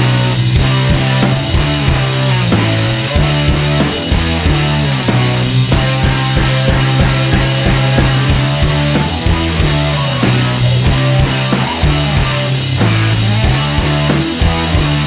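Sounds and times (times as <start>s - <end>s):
steady drum beat: 0.0s - 15.0s
sustained low bass notes: 0.0s - 15.0s.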